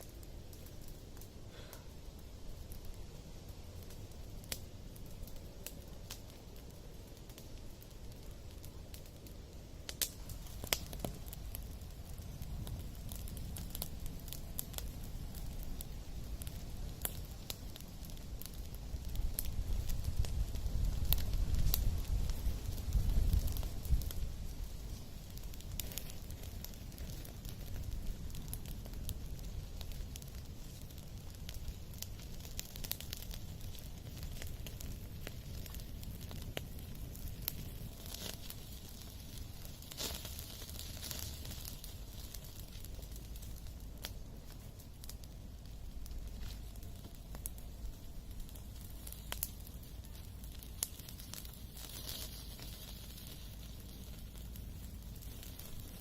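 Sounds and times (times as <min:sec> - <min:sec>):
sharp pops of fire: 0:00.0 - 0:56.0
steady low rumble: 0:00.0 - 0:56.0
wood fire crackling: 0:00.0 - 0:56.0.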